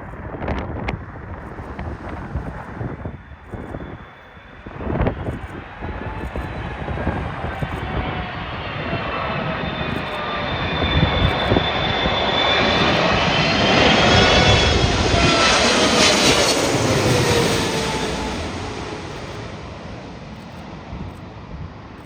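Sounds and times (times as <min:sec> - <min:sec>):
falling jet engine whine: 0:00.0 - 0:22.0
jet airliner flying past: 0:00.0 - 0:22.0.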